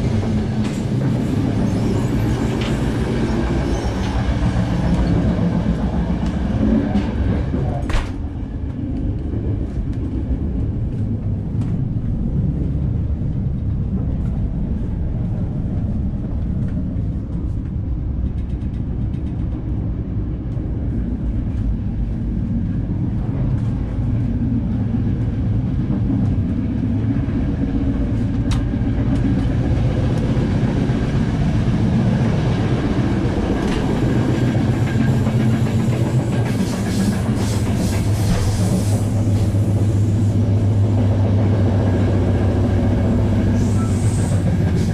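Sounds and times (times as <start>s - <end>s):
train coach rumble and rattle: 0.0s - 44.9s.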